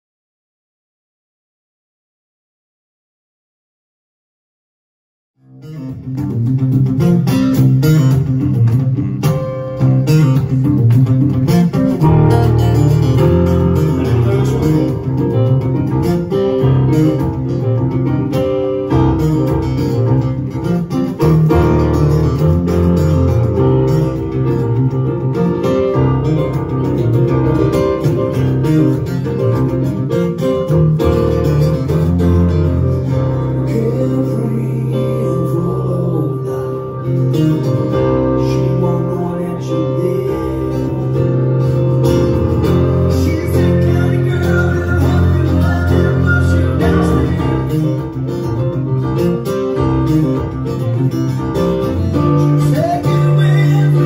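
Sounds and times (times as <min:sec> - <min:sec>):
acoustic guitar: 0:05.4 - 0:54.0.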